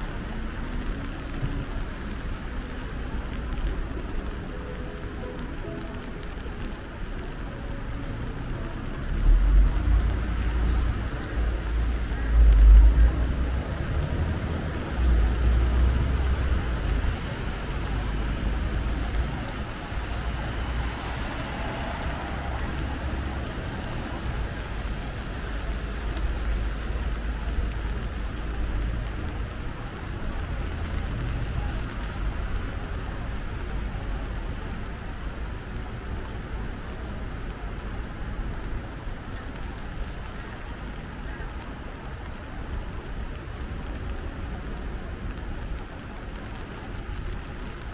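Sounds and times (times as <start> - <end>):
passing traffic: 0.0 - 47.9
rain hissing: 0.0 - 47.9.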